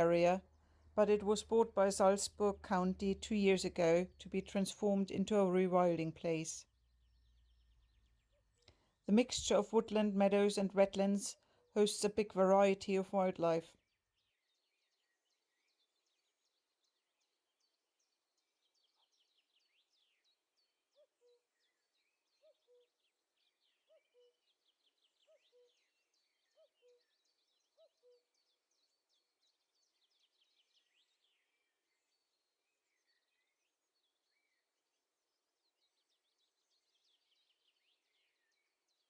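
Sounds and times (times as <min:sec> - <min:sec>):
songbirds twittering: 0:00.0 - 0:39.0.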